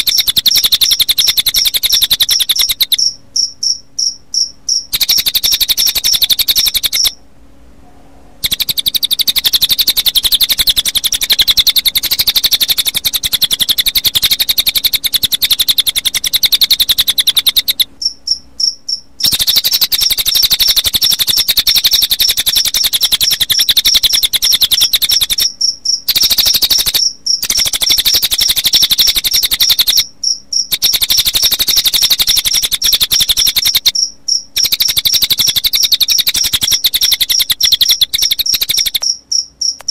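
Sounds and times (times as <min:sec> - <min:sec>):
crickets chirping: 0:00.0 - 0:07.2, 0:08.4 - 0:39.9
high bird chirping trills: 0:00.0 - 0:07.2, 0:08.4 - 0:39.9.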